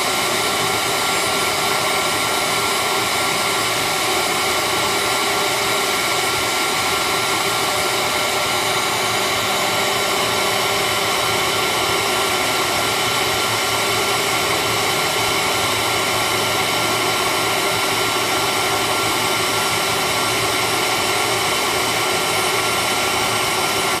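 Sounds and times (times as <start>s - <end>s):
engraver spindle whine: 0.0s - 24.0s.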